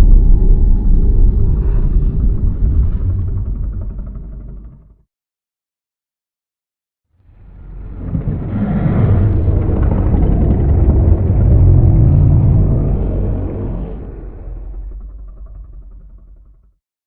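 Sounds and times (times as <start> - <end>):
deep noisy monster rumble: 0.0 - 5.0, 7.2 - 16.8.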